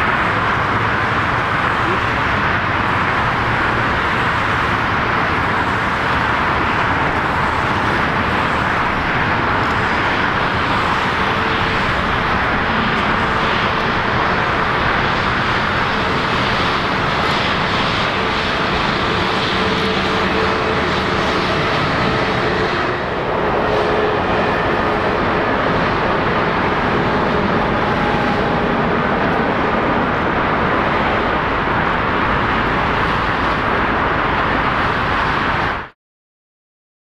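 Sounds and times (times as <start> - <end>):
jet engines rushing: 0.0 - 35.9.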